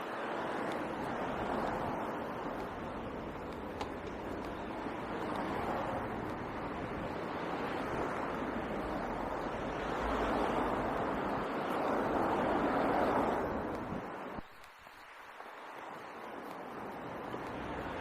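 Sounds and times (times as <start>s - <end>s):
road traffic rushing: 0.0s - 14.4s, 16.6s - 18.0s.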